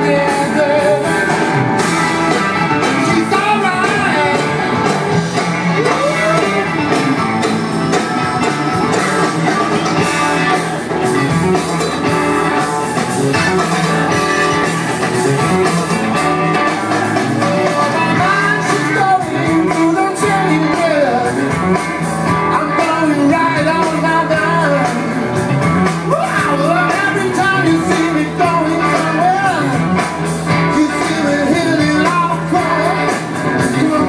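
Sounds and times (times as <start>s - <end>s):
live rock band playing: 0.0s - 34.0s
person singing: 0.0s - 34.0s.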